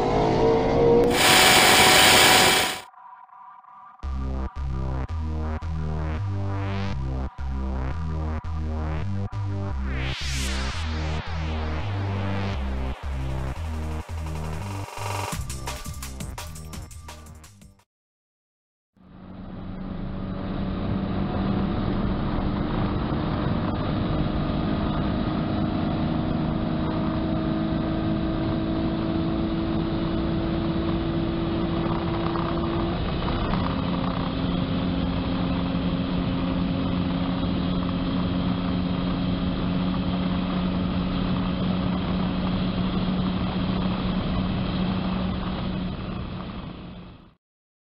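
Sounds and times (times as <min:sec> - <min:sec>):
car engine at high rpm: 0:00.0 - 0:02.8, 0:05.7 - 0:15.4, 0:19.1 - 0:47.0.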